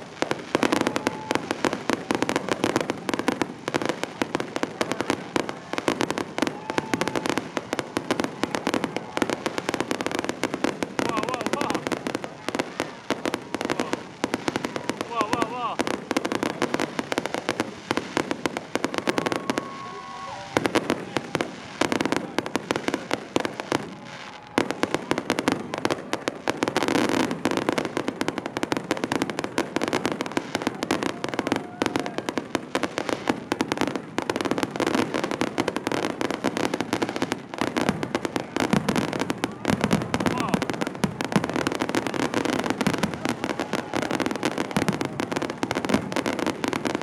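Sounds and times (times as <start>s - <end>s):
fireworks crackling and banging: 0.0s - 47.0s.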